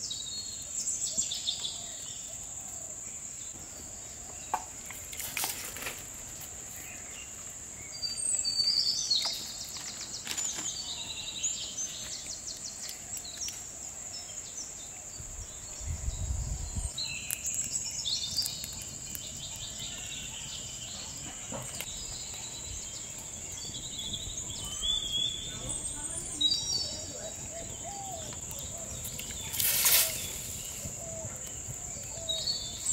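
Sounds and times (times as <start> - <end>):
birds chirping and trilling: 0.0 - 32.9
insect drone: 0.0 - 32.9.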